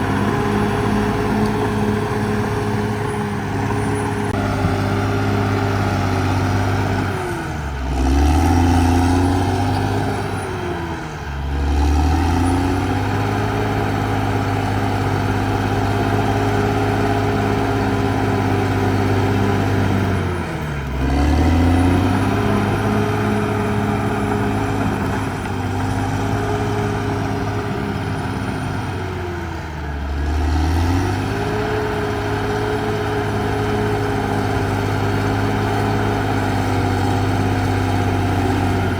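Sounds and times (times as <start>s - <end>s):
bulldozer diesel engine lugging: 0.0s - 38.9s.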